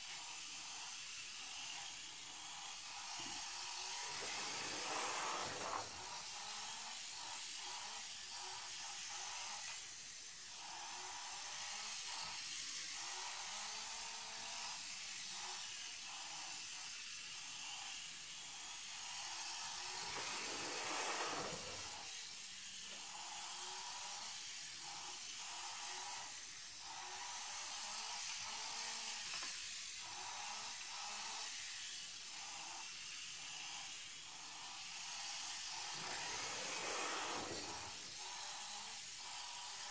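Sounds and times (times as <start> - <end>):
rc car motor whirring: 0.0 - 39.9
steady hiss: 0.0 - 39.9.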